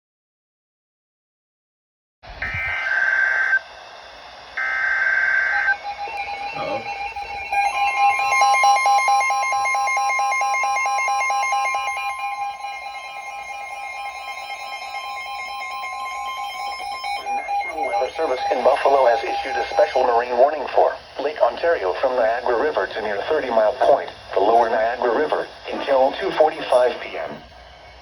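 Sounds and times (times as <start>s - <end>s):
shrill data tones: 2.3s - 28.0s
two-tone attention alarm: 2.4s - 28.0s.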